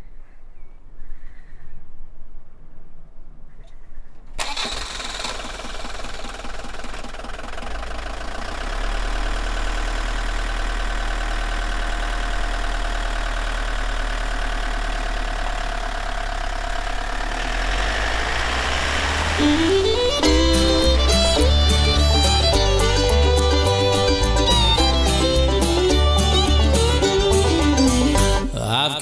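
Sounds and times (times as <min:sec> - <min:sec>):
van engine starting and running: 0:04.3 - 0:29.0.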